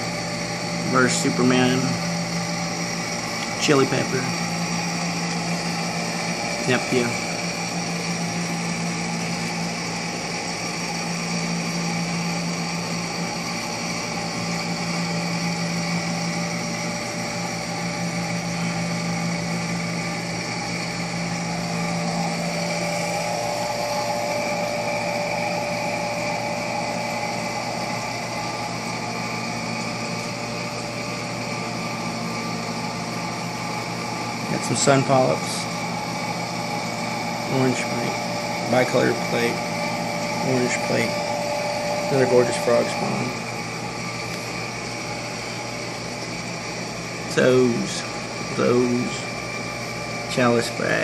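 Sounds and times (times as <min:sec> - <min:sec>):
aquarium pumps humming: 0:00.0 - 0:51.0.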